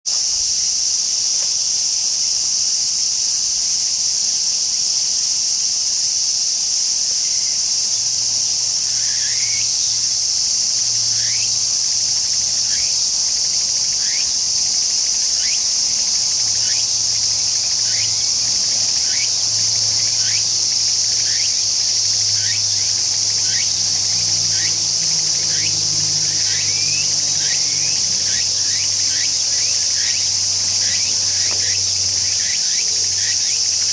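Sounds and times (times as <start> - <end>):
cicada singing: 0.1 - 33.9.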